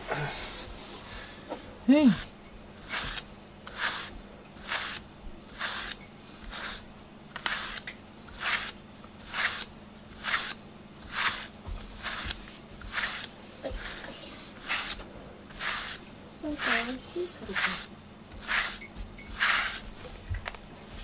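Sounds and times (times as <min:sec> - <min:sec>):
brush rasping through cat fur: 0:02.0 - 0:20.2.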